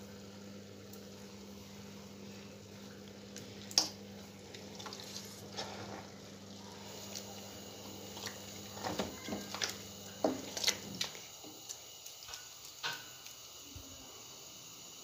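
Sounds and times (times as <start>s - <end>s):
liquid simmering in a pot: 0.0s - 15.0s.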